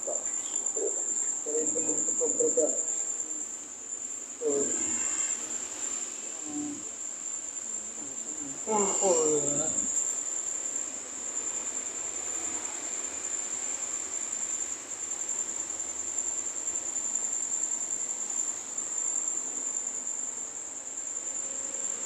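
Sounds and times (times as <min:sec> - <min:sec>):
crickets trilling: 0:00.0 - 0:22.0
faint background noise: 0:00.0 - 0:22.0.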